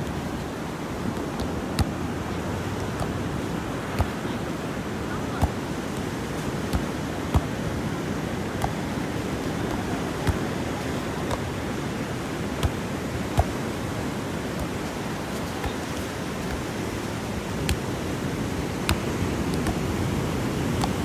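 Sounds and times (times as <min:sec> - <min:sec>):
soccer ball being kicked: 0:01.0 - 0:21.0.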